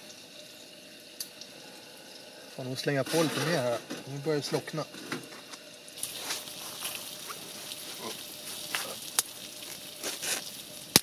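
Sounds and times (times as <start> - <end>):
wood fire crackling in a stove: 0.0 - 11.0.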